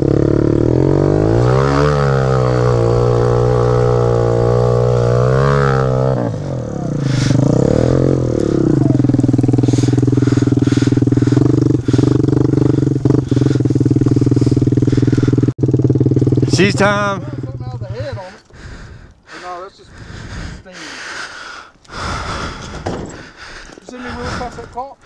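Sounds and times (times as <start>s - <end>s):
dirt bike engine labouring: 0.0s - 25.0s.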